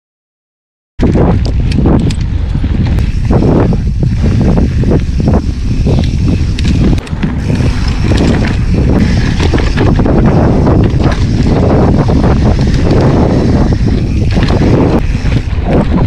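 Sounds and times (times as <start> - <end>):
bike frame rattling over bumps: 1.0 - 16.0
bike tyres rolling and skidding on dirt: 1.0 - 16.0
wind buffeting microphone: 1.0 - 16.0.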